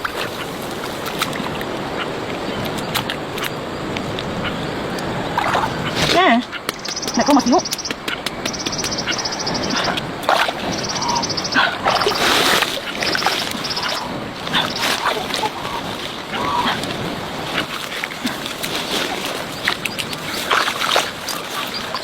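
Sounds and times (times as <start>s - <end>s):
water splashing in a river: 0.0s - 6.3s, 8.5s - 22.0s.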